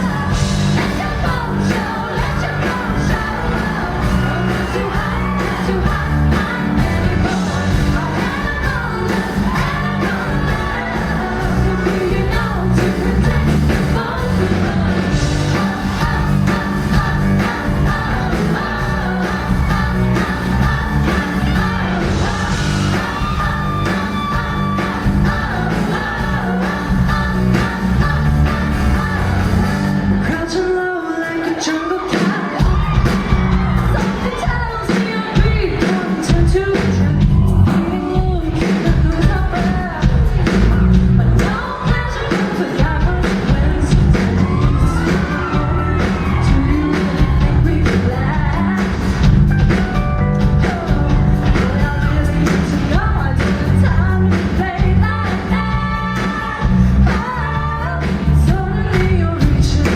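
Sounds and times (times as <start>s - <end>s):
woman singing: 0.0s - 49.7s, 50.4s - 59.9s
pop-rock band playing: 0.0s - 59.9s.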